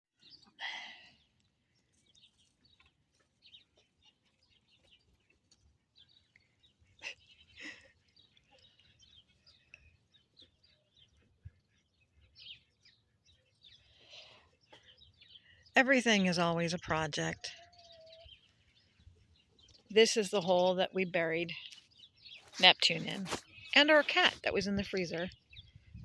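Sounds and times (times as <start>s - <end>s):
small birds chirping: 0.2s - 26.0s.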